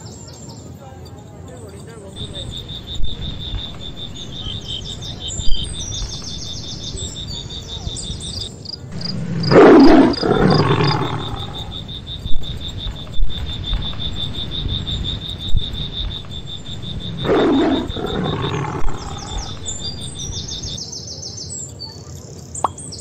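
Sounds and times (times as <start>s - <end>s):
insects chirping: 0.0s - 22.9s
tiger growling: 2.2s - 20.8s.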